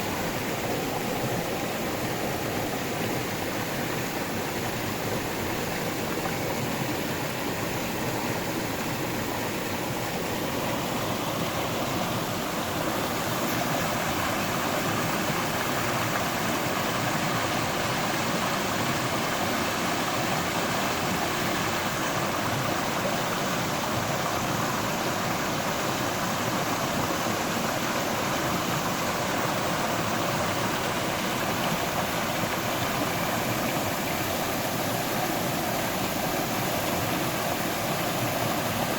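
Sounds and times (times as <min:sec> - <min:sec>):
river water flowing over rocks: 0:00.0 - 0:38.9.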